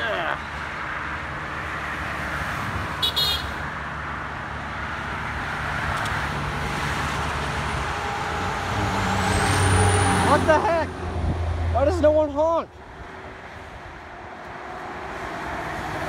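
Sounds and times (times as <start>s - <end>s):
highway traffic: 0.0s - 16.0s.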